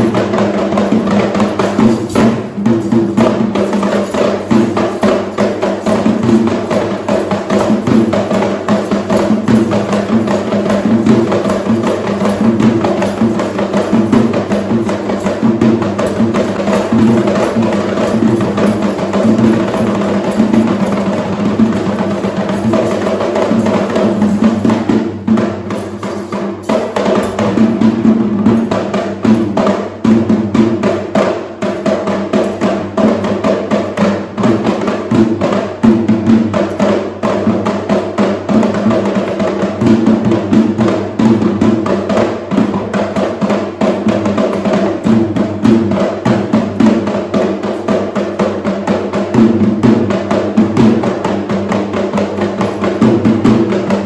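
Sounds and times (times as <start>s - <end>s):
drums in fast rhythm: 0.0s - 54.0s.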